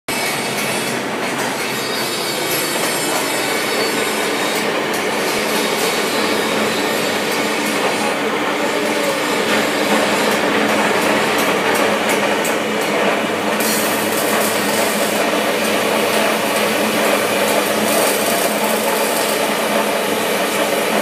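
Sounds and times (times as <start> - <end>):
rushing workshop noise: 0.1 - 21.0.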